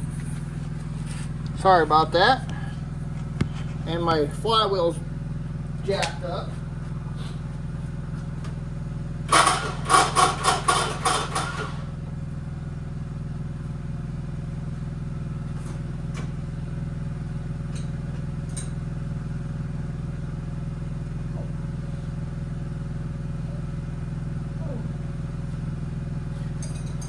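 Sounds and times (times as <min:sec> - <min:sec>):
tractor engine droning: 0:00.0 - 0:27.0.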